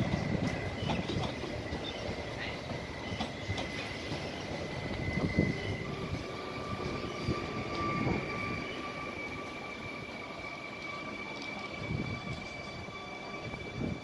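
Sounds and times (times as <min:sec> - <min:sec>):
train high-pitched whine: 0:00.0 - 0:14.0
train low rumbling: 0:00.0 - 0:14.0.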